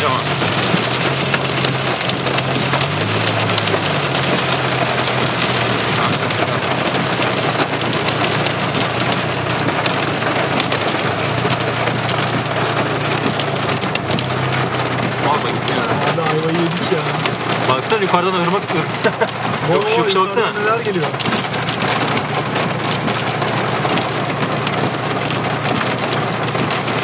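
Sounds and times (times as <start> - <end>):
car engine humming: 0.0 - 27.0
heavy rain on car roof: 0.0 - 27.0.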